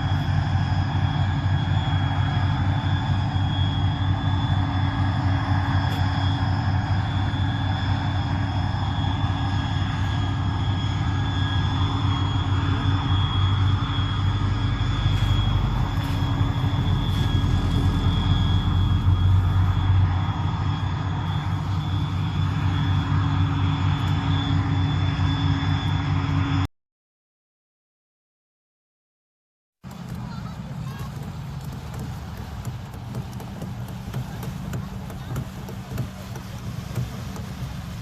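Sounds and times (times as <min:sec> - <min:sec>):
engine drone: 0:00.0 - 0:26.7, 0:29.8 - 0:38.0.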